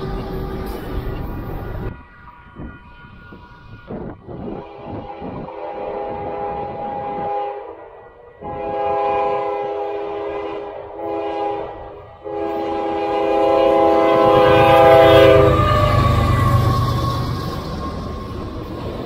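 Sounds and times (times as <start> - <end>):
locomotive engine and wheels rumble: 0.0 - 19.0
locomotive air horn blasts: 1.8 - 18.3.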